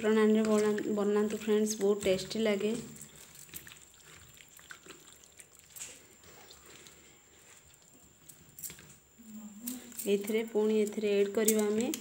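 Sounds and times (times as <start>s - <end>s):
wet squelching of kneading: 0.0s - 12.0s.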